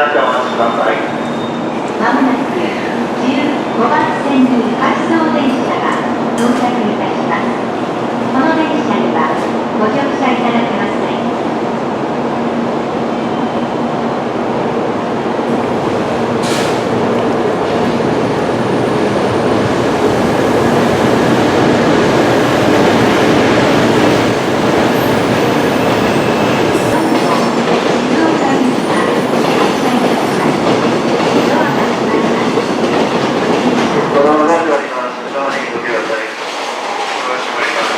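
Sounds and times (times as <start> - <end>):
high-speed train passing: 0.0 - 37.9.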